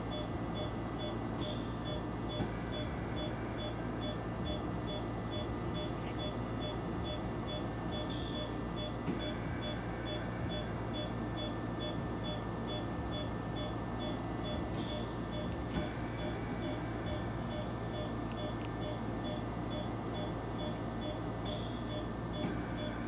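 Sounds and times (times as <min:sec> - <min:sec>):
anaesthesia monitor beeping: 0:00.0 - 0:23.0
machine hum: 0:00.0 - 0:23.0.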